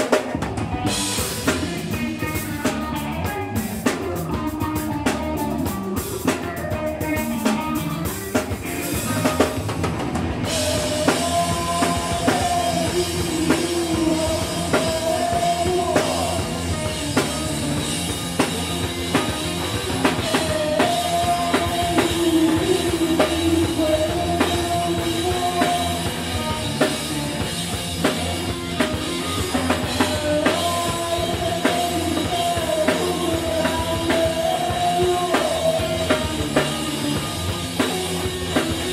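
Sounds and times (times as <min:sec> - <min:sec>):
bass guitar: 0:00.0 - 0:38.9
drum kit beat: 0:00.0 - 0:38.9
electric guitar: 0:00.0 - 0:38.9.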